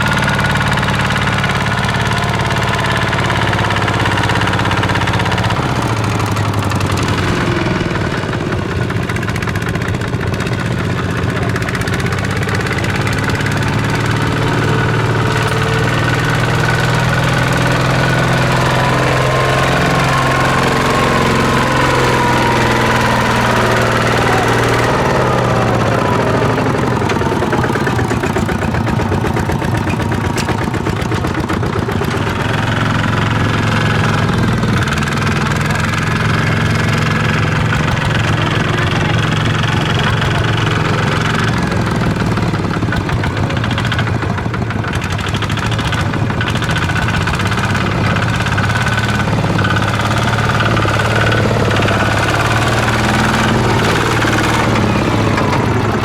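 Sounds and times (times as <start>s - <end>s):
farm machinery engine running: 0.0s - 56.0s.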